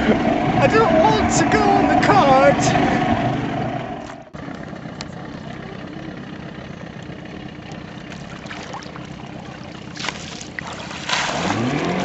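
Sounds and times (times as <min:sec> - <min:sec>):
motorboat engine idling: 0:00.0 - 0:12.0.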